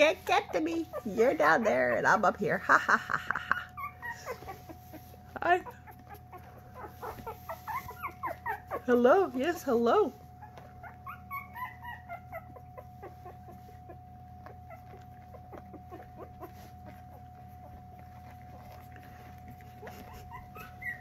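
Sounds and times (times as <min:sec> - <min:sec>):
puppies squeaking: 0:00.0 - 0:21.0.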